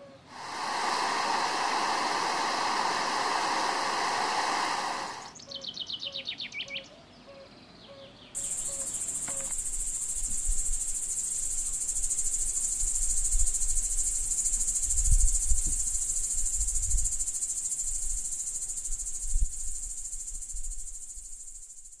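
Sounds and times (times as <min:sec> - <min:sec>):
crickets trilling: 0:00.0 - 0:05.4, 0:08.4 - 0:22.0.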